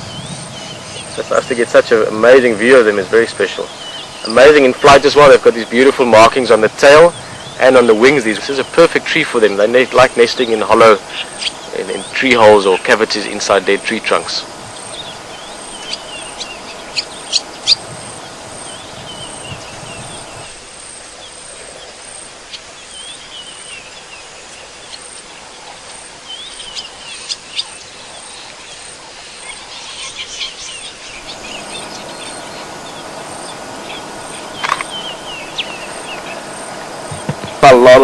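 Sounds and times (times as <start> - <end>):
birds chirping: 0.0 - 38.0
faint high pulsing buzz: 0.0 - 38.0.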